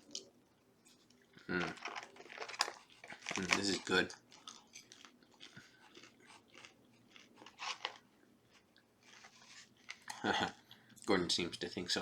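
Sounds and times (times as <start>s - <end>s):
food crunching: 0.0s - 10.7s
person chewing food: 0.0s - 11.0s.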